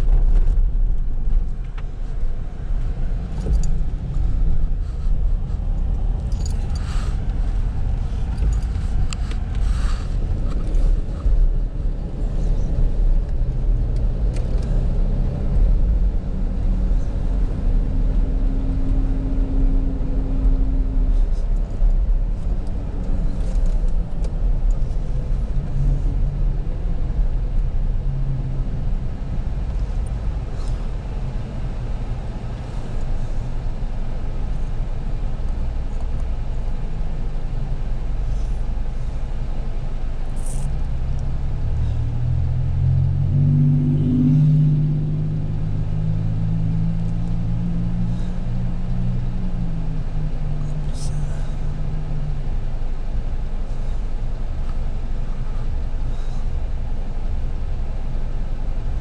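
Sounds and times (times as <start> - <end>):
car engine idling: 0.0 - 14.7, 15.5 - 59.0
deep engine drone: 0.0 - 59.0
road rumble inside car: 0.0 - 59.0.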